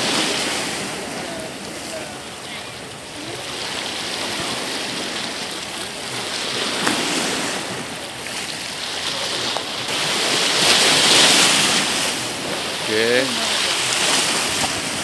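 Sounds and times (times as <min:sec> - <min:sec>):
sea waves: 0:00.0 - 0:15.0
wind: 0:00.0 - 0:15.0.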